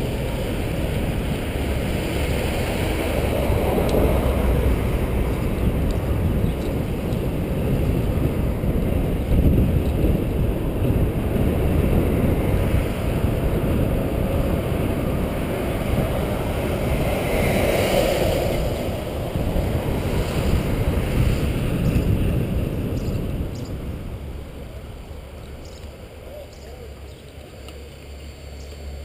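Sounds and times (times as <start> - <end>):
wind buffeting microphone: 0.0 - 28.7.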